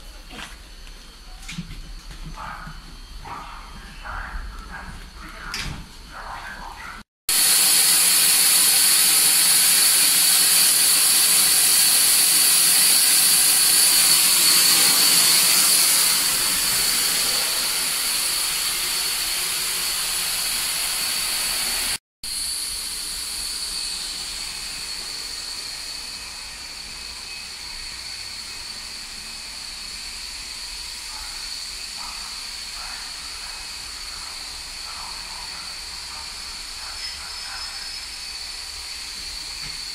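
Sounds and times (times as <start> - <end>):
train machinery hissing whine: 0.0 - 39.9.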